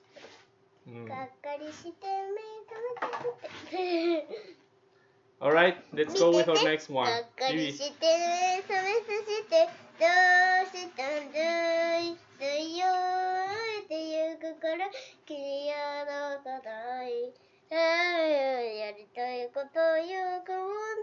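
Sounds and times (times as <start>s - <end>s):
girl singing: 0.9s - 4.5s, 6.1s - 21.0s.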